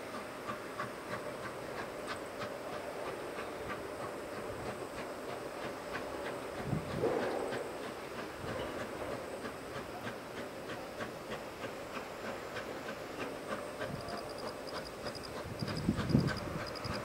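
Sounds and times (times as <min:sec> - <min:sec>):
distant steam locomotive chuffing: 0:00.0 - 0:17.0.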